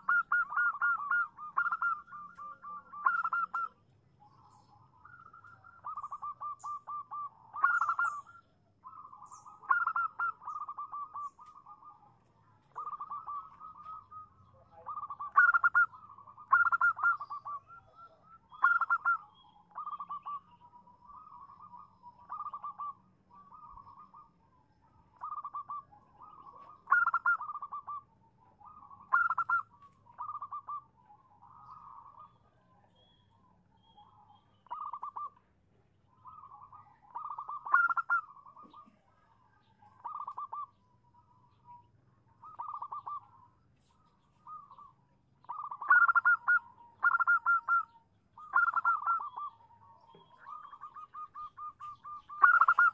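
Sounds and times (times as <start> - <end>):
dove cooing: 0.0 - 32.8, 34.0 - 35.4, 36.1 - 52.9.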